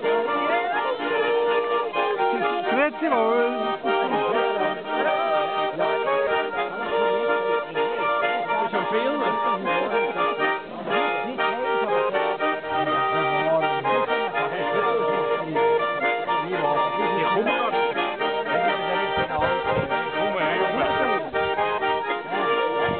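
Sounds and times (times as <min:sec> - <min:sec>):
button accordions playing folk tune: 0:00.0 - 0:22.9.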